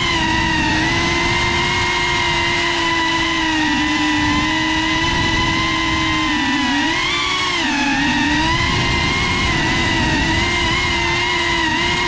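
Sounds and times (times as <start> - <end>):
drone motors whining: 0.0 - 12.0
propeller wash rushing: 0.0 - 12.0.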